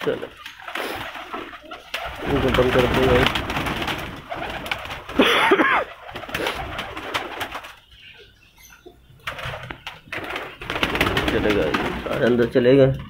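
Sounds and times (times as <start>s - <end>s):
pigeon wings flapping: 0.0s - 7.8s, 9.2s - 12.6s
pigeons cooing: 0.0s - 12.5s.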